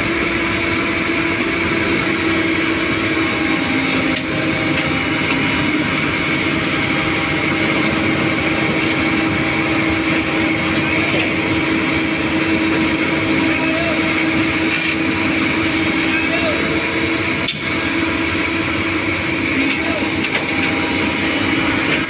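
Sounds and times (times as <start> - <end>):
constant whine: 0.0 - 22.0
excavator diesel engine running: 0.0 - 22.0.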